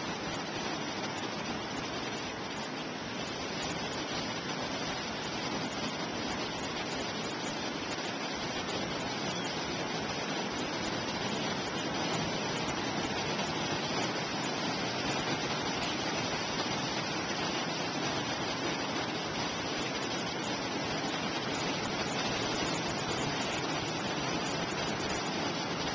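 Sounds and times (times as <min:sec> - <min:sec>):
surf breaking on beach: 0:00.0 - 0:25.9.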